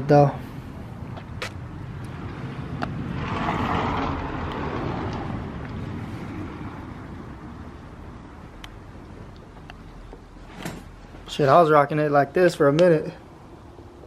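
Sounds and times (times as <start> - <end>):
vehicle passing by: 0.0 - 11.4.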